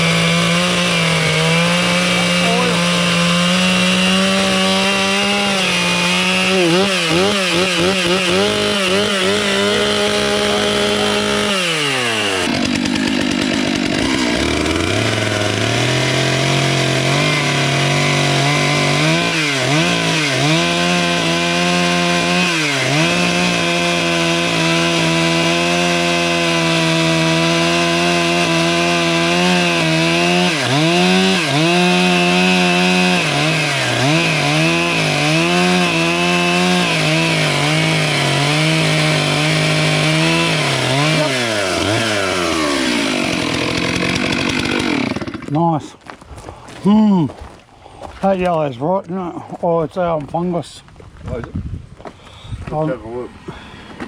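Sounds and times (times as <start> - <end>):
petrol saw cutting wood: 0.0 - 46.0.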